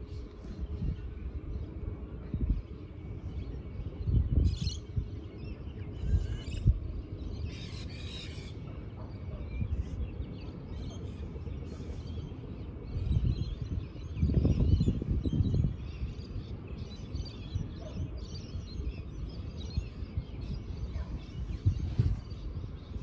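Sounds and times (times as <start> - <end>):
birds chirping: 0.0 - 23.0
wind rumbling on microphone: 0.0 - 23.0.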